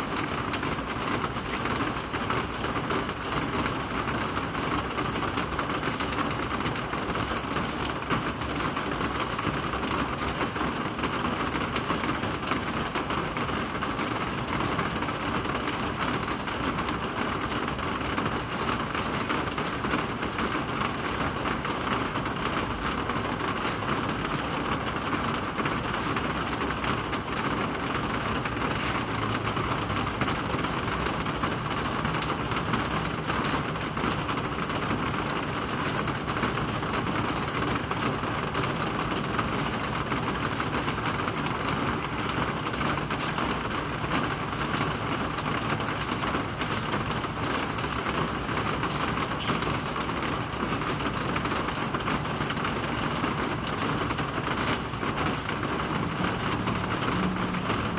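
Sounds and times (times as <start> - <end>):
steady rain hissing: 10.2 - 57.9.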